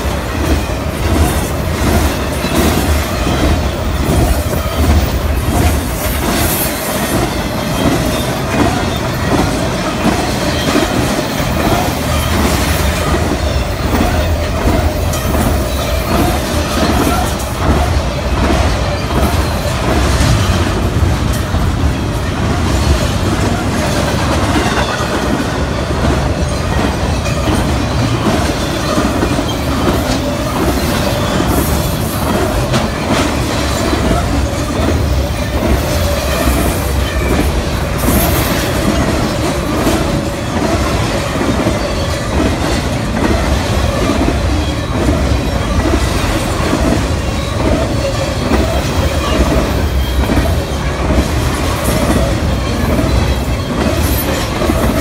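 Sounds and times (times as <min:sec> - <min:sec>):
ringing tone from wheels: 0:00.0 - 0:55.0
rumble of wheels on rail: 0:00.0 - 0:55.0.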